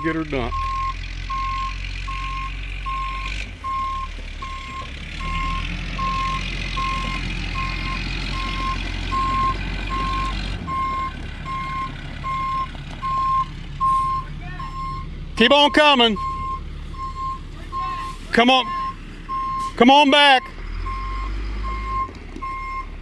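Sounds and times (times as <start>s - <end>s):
truck engine running: 0.0s - 23.0s
truck reversing alarm beeping: 0.0s - 23.0s.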